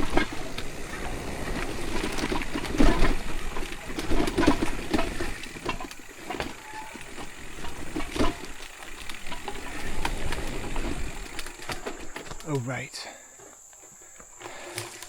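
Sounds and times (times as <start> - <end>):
bike knocking and rattling: 0.0 - 12.6, 13.4 - 15.0.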